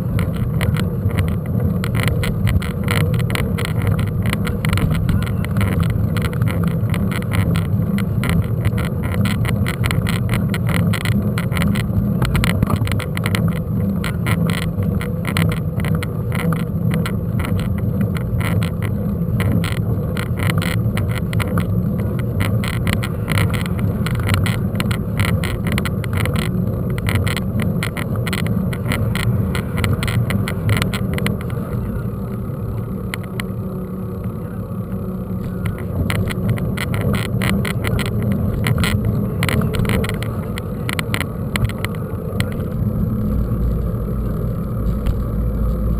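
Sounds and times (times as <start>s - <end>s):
mountain bike rattling on dirt track: 0.0s - 34.4s, 35.1s - 45.9s.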